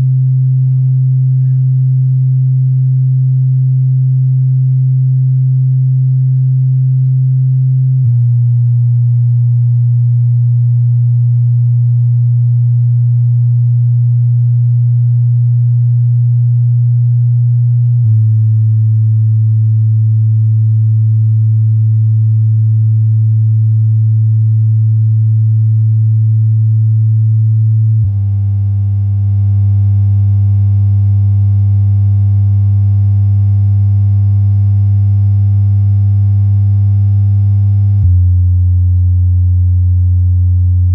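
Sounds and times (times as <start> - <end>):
subwoofer bass test tones: 0.0 - 40.9.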